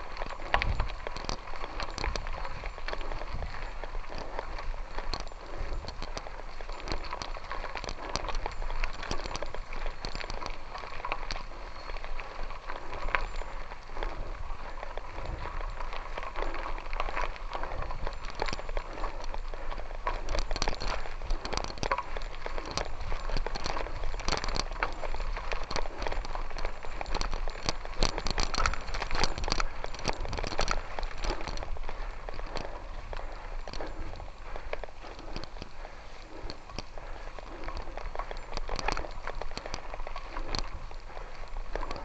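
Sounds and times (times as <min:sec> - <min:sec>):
gravel crunching: 0:00.0 - 0:42.0.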